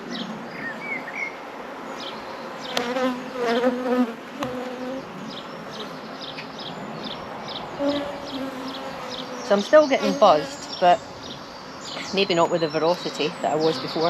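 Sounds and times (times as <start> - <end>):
honeybees buzzing: 2.0 - 14.0.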